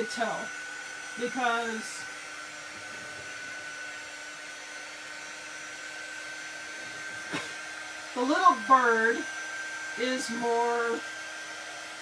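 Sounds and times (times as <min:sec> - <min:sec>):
hot-air dryer blowing: 0:00.0 - 0:12.0.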